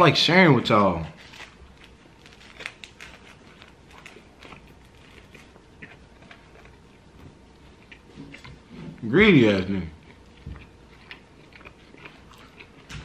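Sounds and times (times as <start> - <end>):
man chewing: 1.2 - 13.0.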